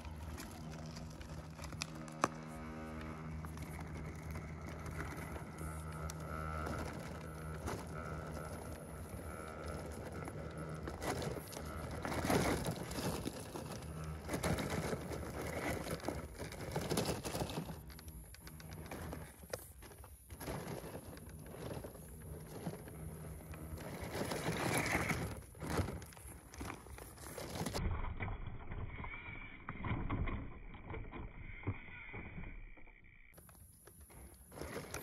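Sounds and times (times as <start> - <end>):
crunching and scraping: 0.0 - 28.8, 32.2 - 35.0
rc truck motor whine: 0.0 - 35.0.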